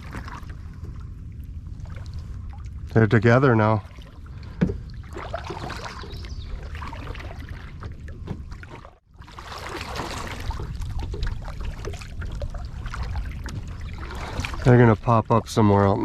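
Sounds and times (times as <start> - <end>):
steady low rumble: 0.0 - 16.0
water dripping and lapping: 0.0 - 16.0.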